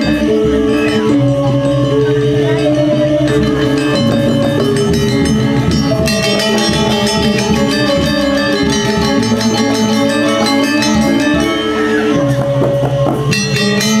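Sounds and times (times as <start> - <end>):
gamelan ensemble playing: 0.0 - 14.0.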